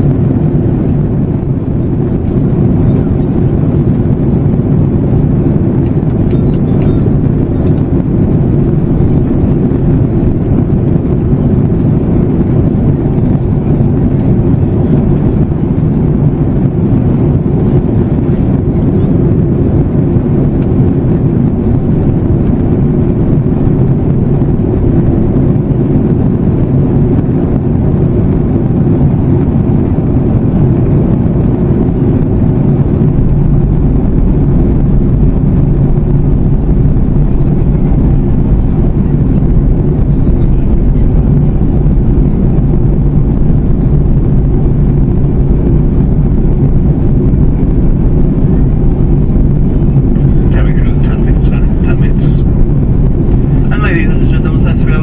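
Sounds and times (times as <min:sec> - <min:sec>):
airplane cabin airflow rush: 0:00.0 - 0:55.0
faint steady hum: 0:00.0 - 0:55.0.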